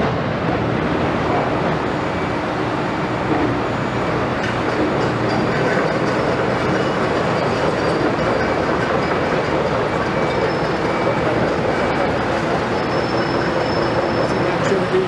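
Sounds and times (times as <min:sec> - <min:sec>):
diesel engines of heavy machinery: 0:00.0 - 0:15.0.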